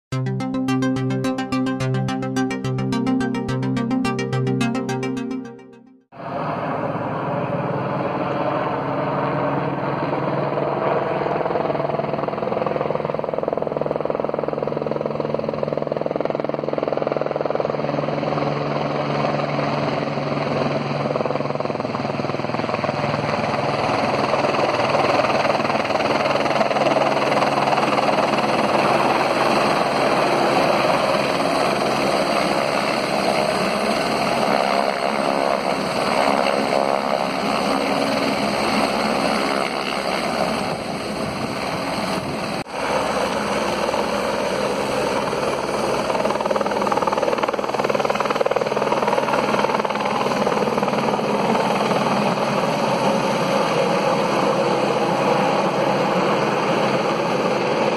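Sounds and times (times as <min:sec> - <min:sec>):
helicopter rotor beating: 0:06.2 - 0:57.9.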